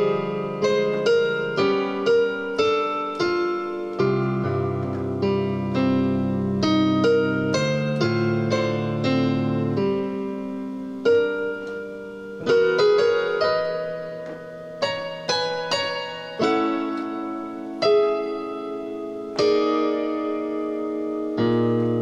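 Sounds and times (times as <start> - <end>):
solo piano playing chords: 0.0 - 22.0.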